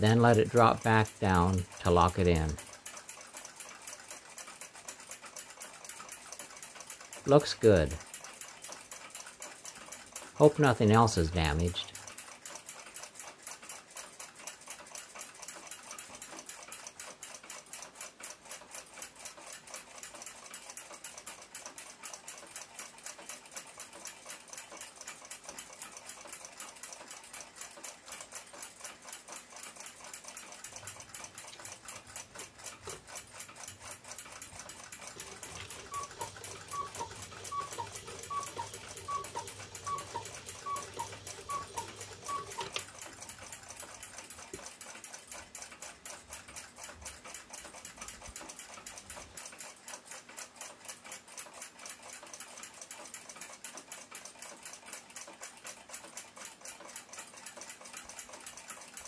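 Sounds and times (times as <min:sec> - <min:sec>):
clock escapement ticking: 0:00.0 - 0:59.0.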